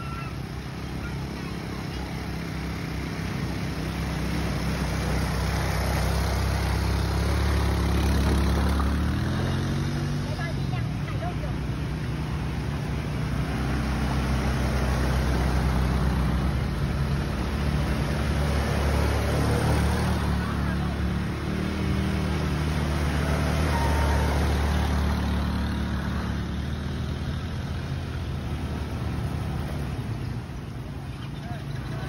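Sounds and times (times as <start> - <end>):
quad bike engines running: 0.0 - 32.0
wheels splashing through water: 0.0 - 32.0.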